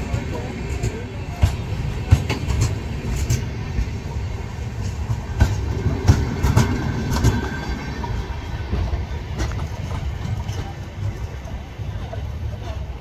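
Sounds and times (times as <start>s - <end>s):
wheels clacking over rail joints: 0.0s - 12.9s
train wheels rumbling on rails: 0.0s - 13.0s.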